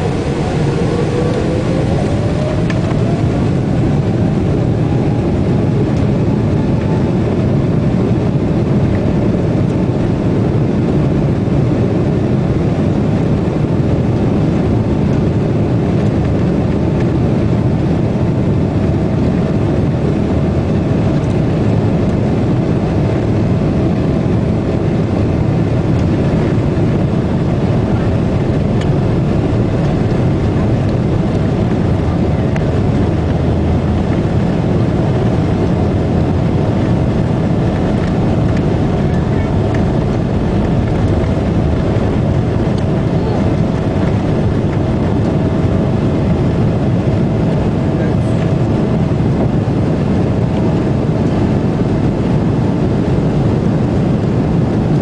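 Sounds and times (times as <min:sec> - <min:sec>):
jet engine rumble in cabin: 0:00.0 - 0:55.0.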